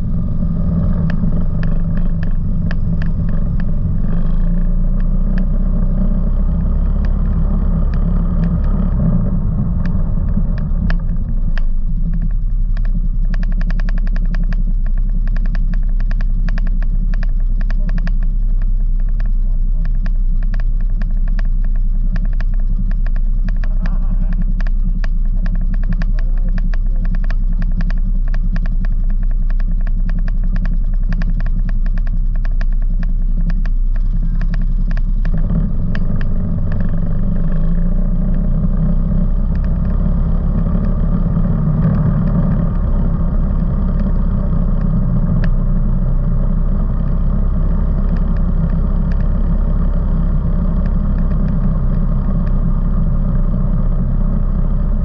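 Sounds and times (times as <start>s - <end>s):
atv engines: 0.0s - 55.0s.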